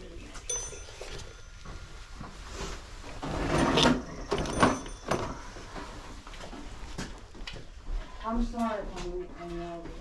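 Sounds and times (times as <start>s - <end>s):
rubbing and scraping handling noise: 0.2s - 10.0s.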